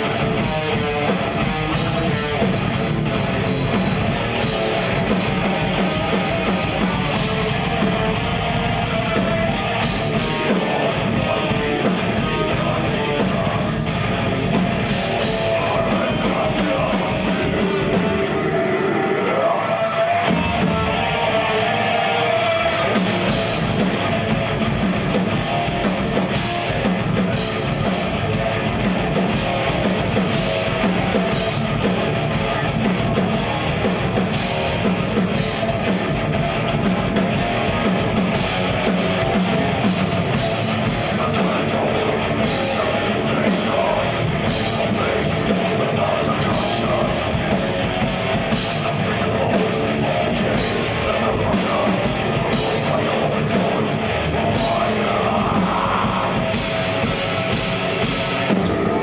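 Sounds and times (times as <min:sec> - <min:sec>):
fast drum and cymbal hits: 0:00.0 - 0:21.6, 0:22.4 - 0:59.0
distorted guitars and bass: 0:00.0 - 0:59.0.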